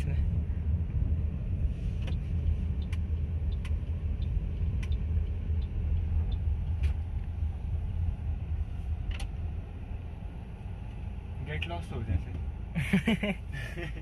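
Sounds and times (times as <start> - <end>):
car cabin low rumble: 0.0 - 14.0.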